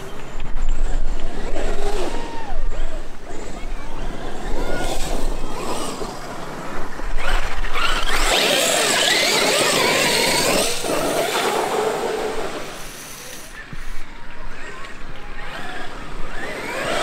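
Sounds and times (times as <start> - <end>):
electric motor whining: 0.7 - 14.0, 15.4 - 17.0.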